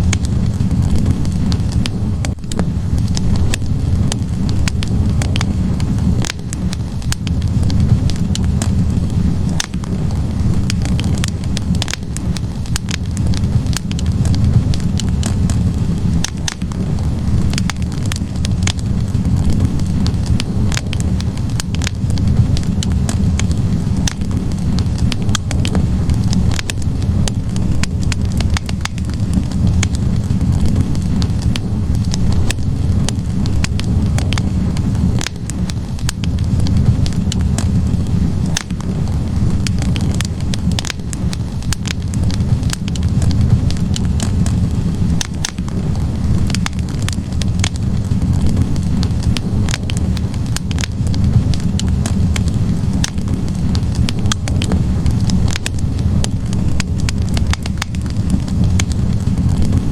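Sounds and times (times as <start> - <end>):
logs burning in fireplace: 0.0 - 59.9.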